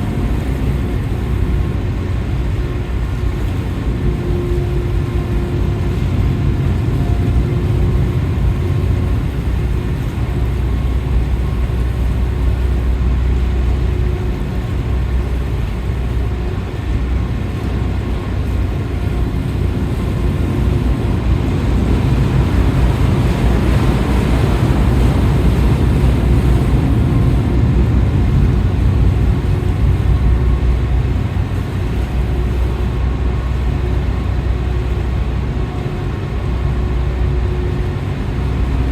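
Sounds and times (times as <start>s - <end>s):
ship engines rumbling: 0.0s - 38.9s.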